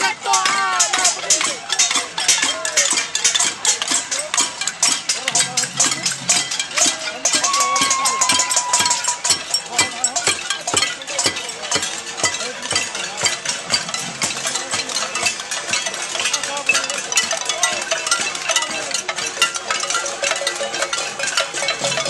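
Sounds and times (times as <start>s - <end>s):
crowd banging pots and pans: 0.0s - 22.0s.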